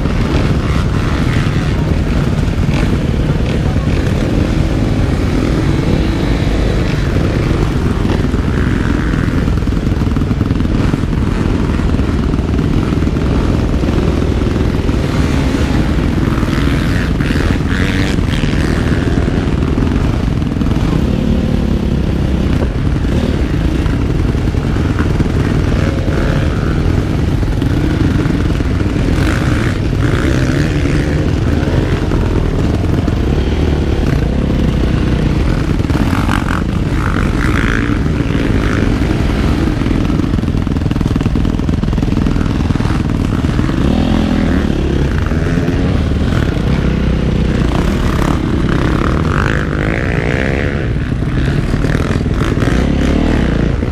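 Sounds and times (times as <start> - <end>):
motorcycle engine running hard: 0.0 - 53.9.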